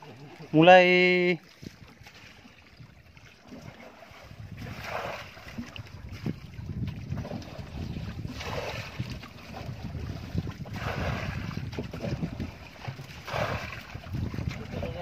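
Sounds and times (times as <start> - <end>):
small boat engine rumbling: 0.0 - 15.0.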